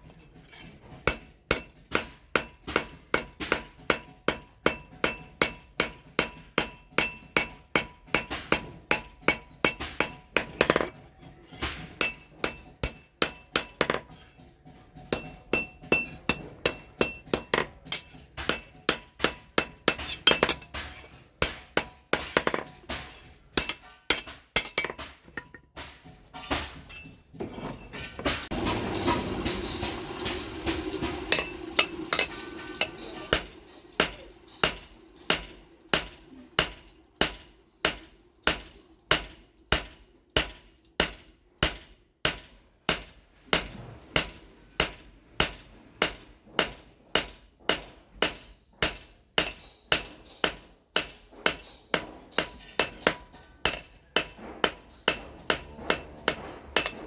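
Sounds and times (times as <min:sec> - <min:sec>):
hammer striking steel on anvil: 0:00.0 - 0:57.0.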